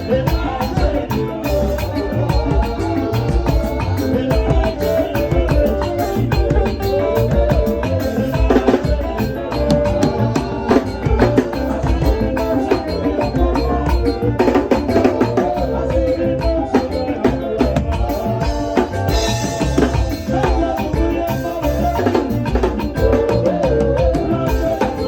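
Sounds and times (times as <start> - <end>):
hand drum and drum kit: 0.0 - 25.0
live band playing upbeat music: 0.0 - 25.0.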